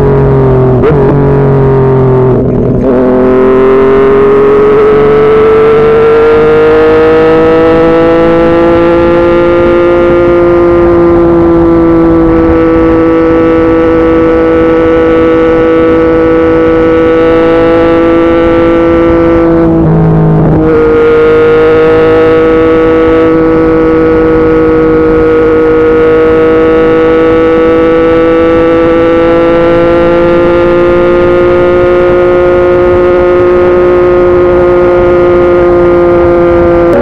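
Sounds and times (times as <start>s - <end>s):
motorcycle engine running hard: 0.0s - 37.0s
wind and road noise: 0.0s - 37.0s.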